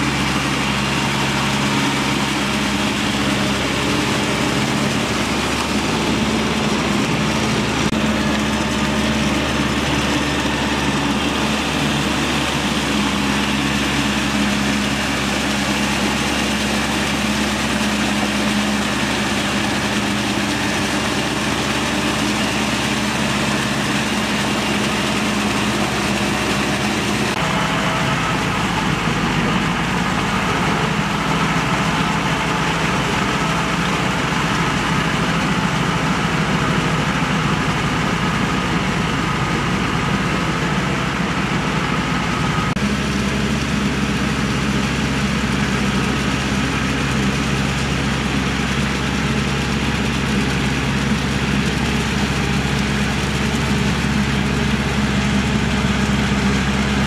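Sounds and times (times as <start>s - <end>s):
rotary tillers churning mud: 0.0s - 57.0s
tractor engine running under load: 0.0s - 57.0s.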